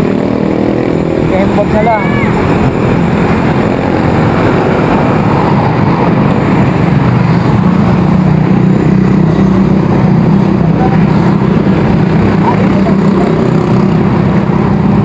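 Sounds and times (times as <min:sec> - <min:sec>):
car traffic: 0:00.0 - 0:15.0
wind rush on microphone: 0:00.0 - 0:15.0.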